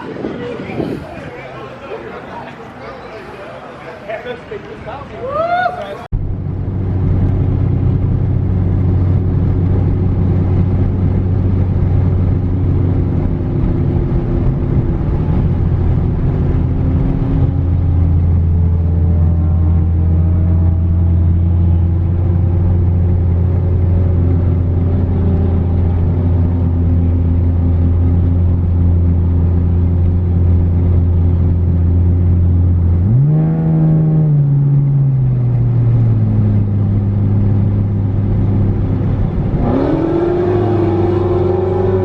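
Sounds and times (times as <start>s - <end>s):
car engine revving: 6.3s - 42.0s.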